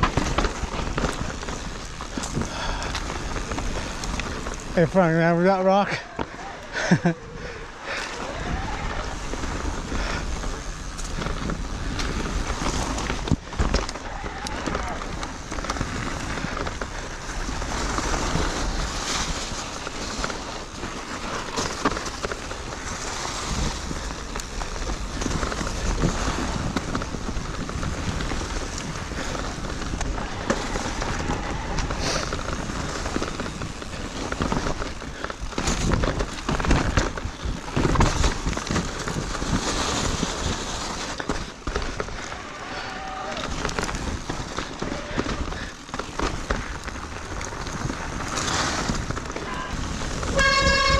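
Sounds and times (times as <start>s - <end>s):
wind rumble on microphone: 0.0s - 5.1s, 6.0s - 50.9s
bike knocks and rattles: 0.0s - 6.6s, 8.1s - 50.9s
tyres crunching on snow: 0.0s - 50.9s.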